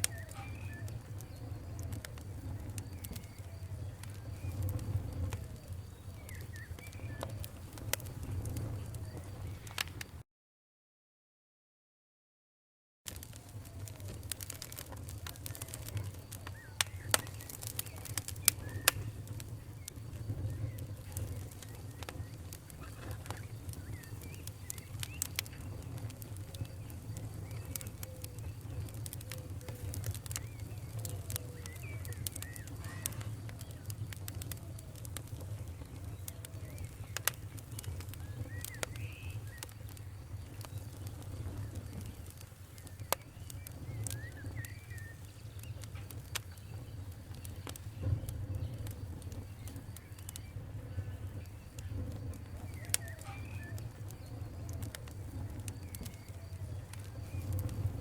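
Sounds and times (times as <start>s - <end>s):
faint chirps or whistles: 0.0s - 7.5s, 13.5s - 34.9s, 35.8s - 57.8s
wood fire crackling: 0.0s - 10.2s, 13.1s - 58.0s.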